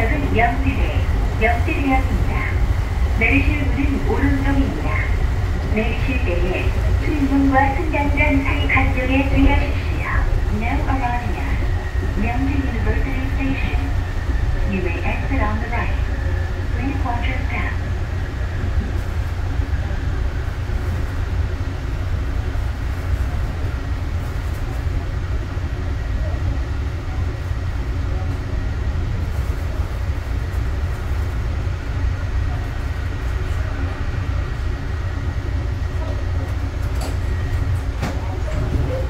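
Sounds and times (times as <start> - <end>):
train interior low rumble: 0.0 - 39.0.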